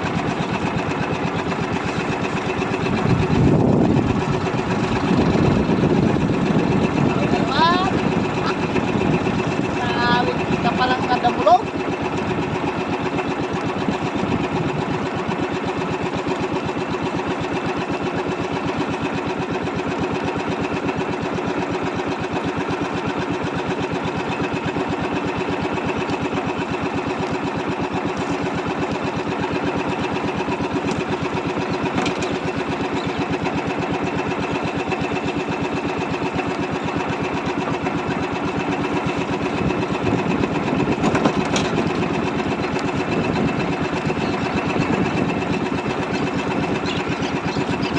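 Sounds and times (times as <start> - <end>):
small boat engine chattering: 0.0 - 47.9.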